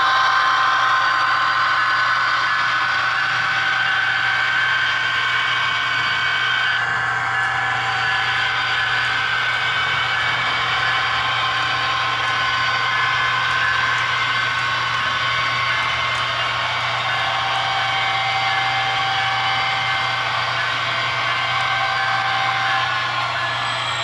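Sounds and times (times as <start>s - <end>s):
model locomotive diesel engine drone: 0.0s - 24.0s
model train cars running on rails: 0.0s - 24.0s
steady high tones: 0.0s - 24.0s.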